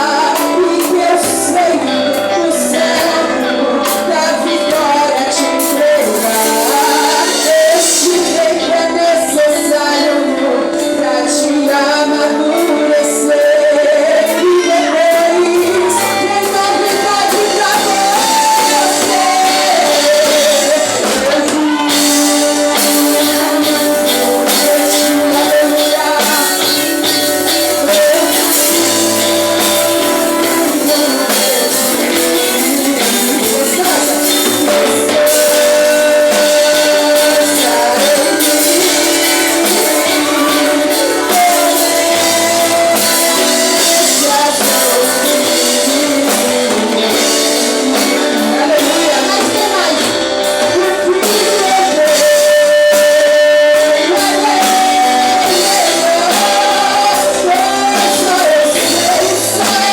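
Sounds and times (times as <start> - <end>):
person singing: 0.0 - 59.9
worship song with band: 0.0 - 59.9.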